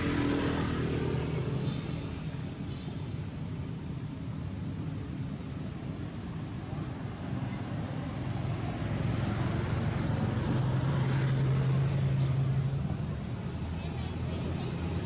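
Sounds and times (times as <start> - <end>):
engine rumble: 0.0 - 15.0.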